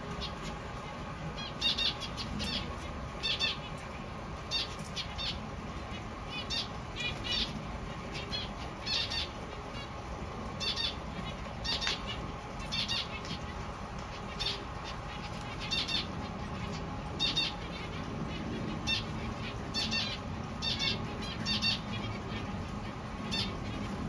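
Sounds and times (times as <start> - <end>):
finches calling: 1.4 - 3.8, 4.5 - 10.0, 10.6 - 24.0.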